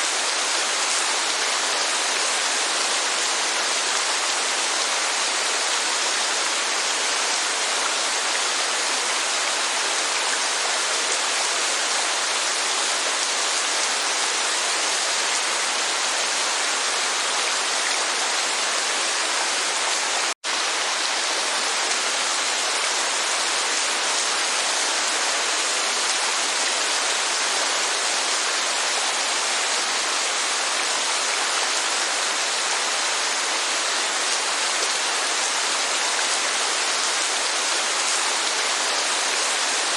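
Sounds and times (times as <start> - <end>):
rain rushing: 0.0 - 39.9
waterfall: 0.0 - 39.9.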